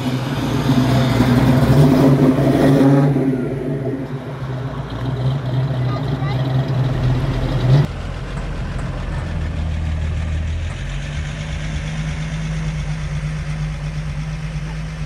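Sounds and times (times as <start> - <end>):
car engine droning at low speed: 0.0 - 15.0
loud engine sound: 0.0 - 15.0.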